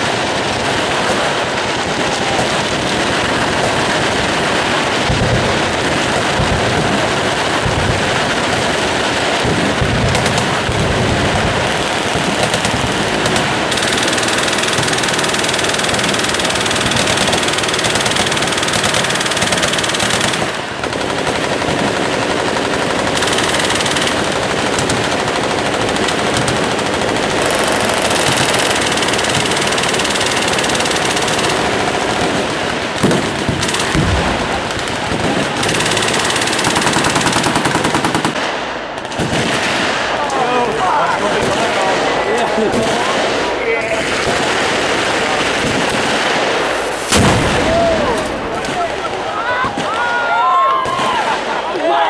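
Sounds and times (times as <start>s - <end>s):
machine guns firing: 0.0s - 52.0s.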